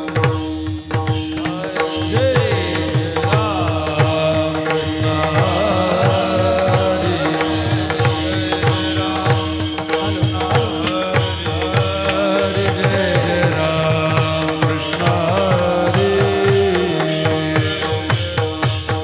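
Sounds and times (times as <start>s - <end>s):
drums beating: 0.0s - 19.0s
man singing: 0.0s - 19.0s.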